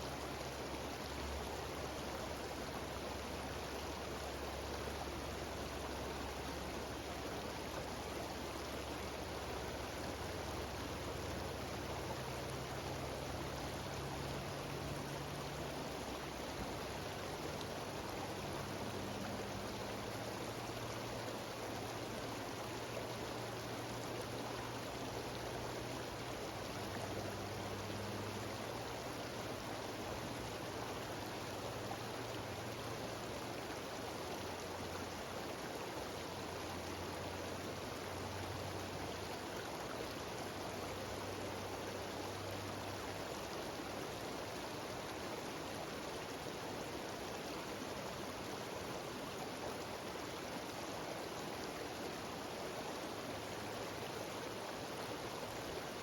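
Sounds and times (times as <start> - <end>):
stream rushing over waterfalls: 0.0 - 56.0.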